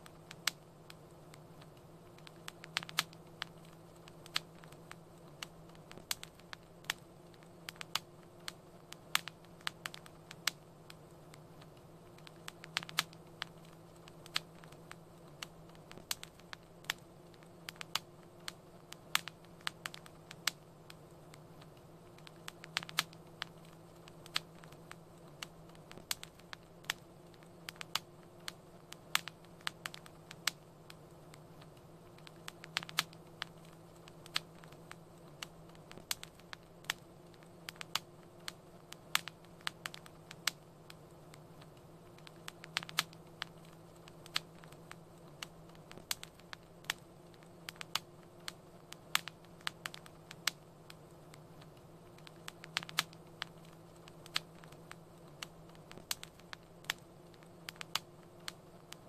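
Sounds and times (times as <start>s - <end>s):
faint hum: 0.0s - 59.0s
low steady hiss: 0.0s - 59.0s
wood fire crackling: 0.0s - 59.0s.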